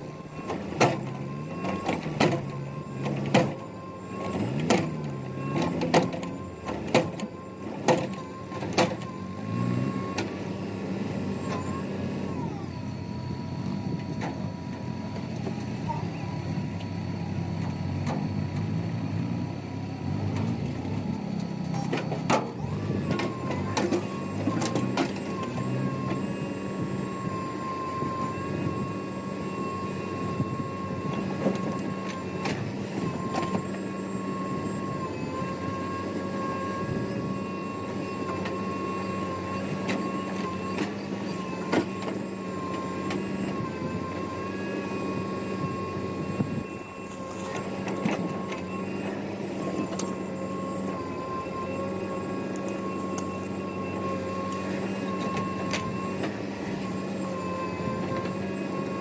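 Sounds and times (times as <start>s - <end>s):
diesel machinery engine running: 0.0s - 59.0s
steady high whine: 0.0s - 59.0s.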